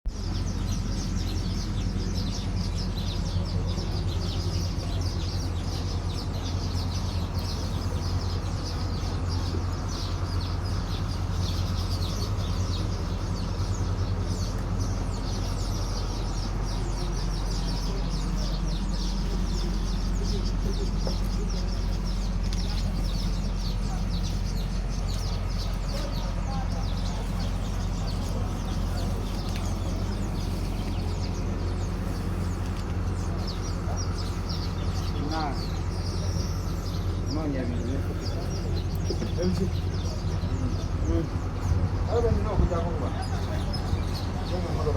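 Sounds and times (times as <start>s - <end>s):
diesel engine running: 0.1s - 44.9s.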